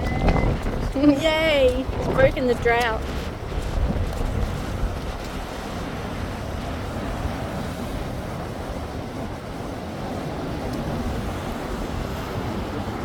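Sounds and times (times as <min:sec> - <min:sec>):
waves washing: 0:00.0 - 0:13.0
wind buffeting microphone: 0:00.0 - 0:13.0.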